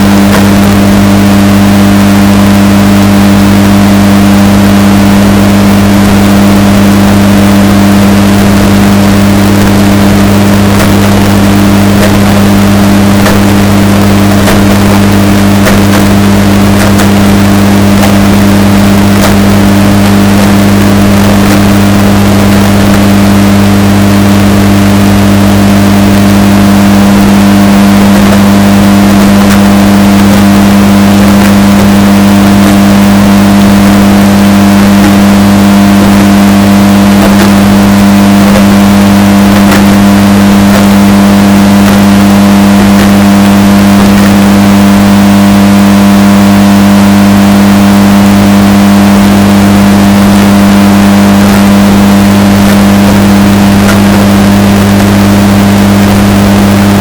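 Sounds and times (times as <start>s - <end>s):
washing machine droning hum: 0.0s - 57.0s.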